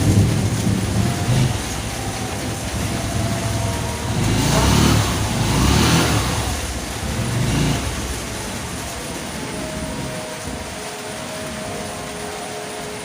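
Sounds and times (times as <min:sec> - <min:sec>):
steady rain: 0:00.0 - 0:13.0
vehicle passing on wet road: 0:00.0 - 0:13.0.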